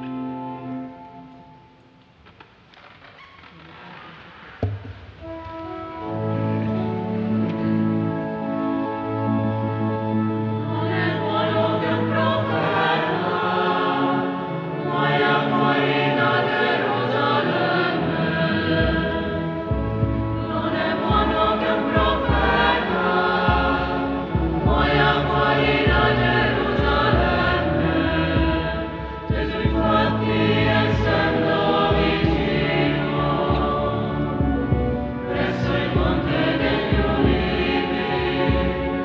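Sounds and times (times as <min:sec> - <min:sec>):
choir singing a hymn: 0:05.2 - 0:39.0.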